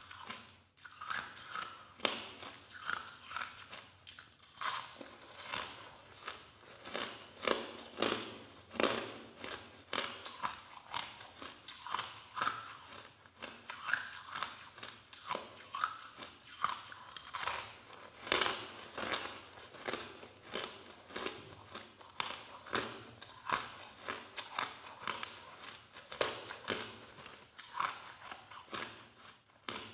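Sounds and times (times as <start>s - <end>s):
person chewing crushed ice: 0.0s - 29.9s.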